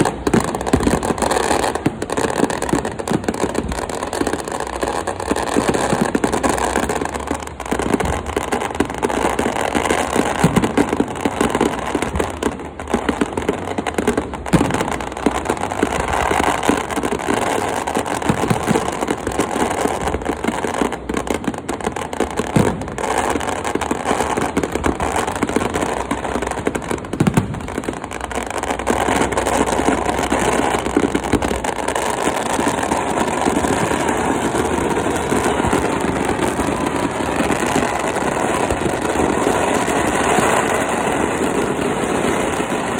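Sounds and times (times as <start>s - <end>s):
fireworks crackling pops: 0.0s - 42.9s
fireworks sharp bangs: 0.0s - 42.9s.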